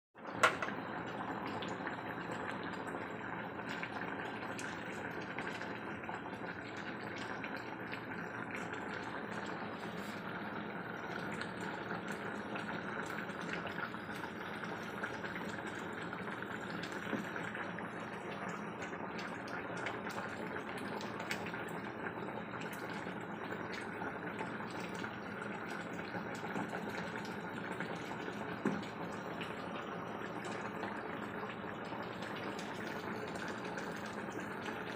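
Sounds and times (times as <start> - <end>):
curry bubbling in pot: 0.2 - 34.9.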